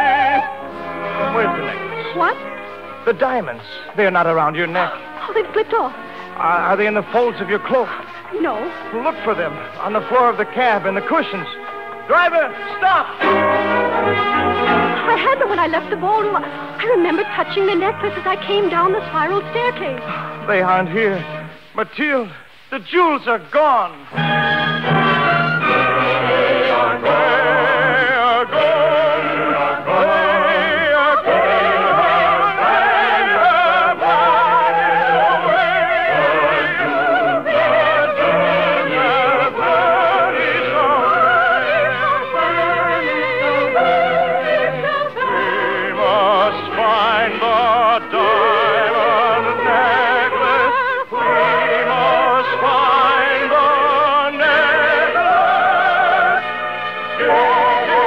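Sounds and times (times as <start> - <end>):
operatic singing: 0.0 - 21.6, 23.9 - 58.0
orchestral accompaniment: 0.0 - 58.0.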